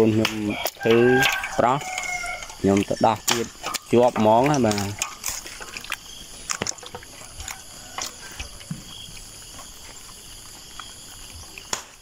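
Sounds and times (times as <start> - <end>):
fish flapping and slapping: 0.0 - 12.0.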